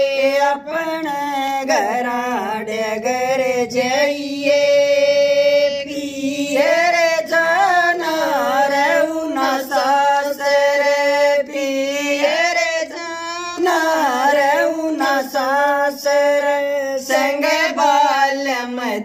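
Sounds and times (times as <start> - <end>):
women singing folk song: 0.0 - 19.0.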